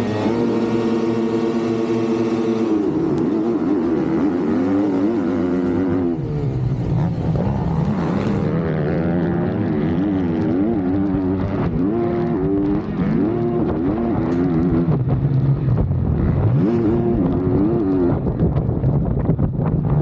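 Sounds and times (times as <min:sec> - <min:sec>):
motocross bike engines revving: 0:00.0 - 0:18.6.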